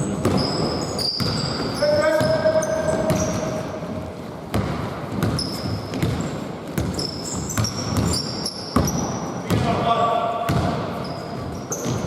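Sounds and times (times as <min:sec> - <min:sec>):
sneaker squeaks on floor: 0:00.0 - 0:03.8, 0:04.5 - 0:12.0
basketball bouncing on court: 0:00.1 - 0:03.7, 0:04.5 - 0:12.0.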